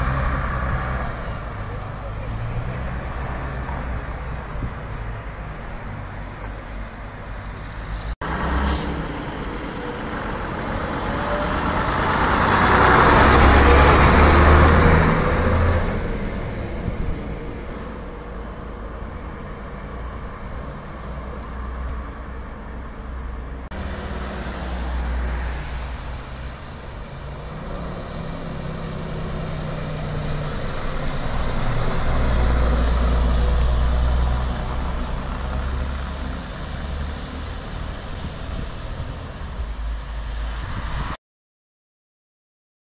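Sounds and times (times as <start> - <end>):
bus diesel engines passing: 0.0 - 41.1.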